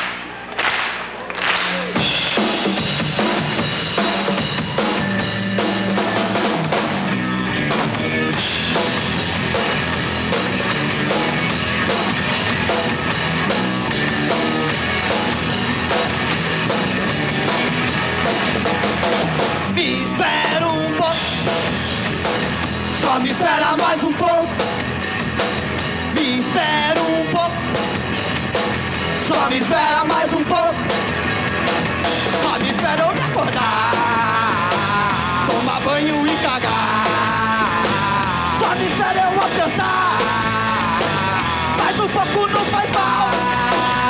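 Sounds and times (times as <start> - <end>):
drum kit: 0.0 - 44.0
rock band playing live: 1.0 - 44.0.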